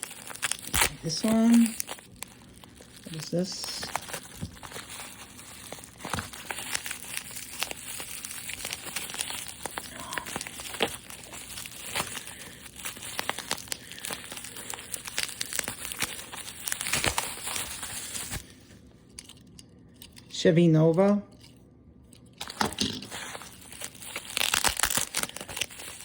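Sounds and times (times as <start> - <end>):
plastic packaging crinkling and tearing: 0.0 - 20.2, 22.2 - 26.0.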